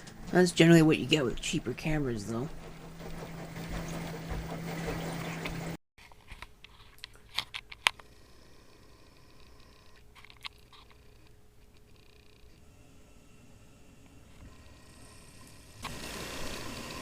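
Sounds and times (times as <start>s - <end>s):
low hum: 0.0s - 5.8s, 7.1s - 17.0s.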